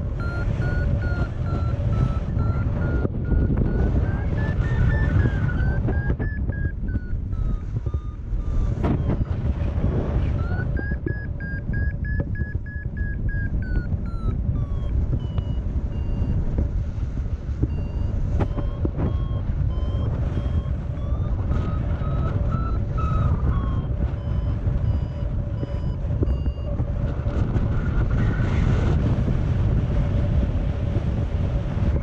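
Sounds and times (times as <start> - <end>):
variometer beeping: 0.0 - 29.6
wind rush on microphone: 0.0 - 32.0.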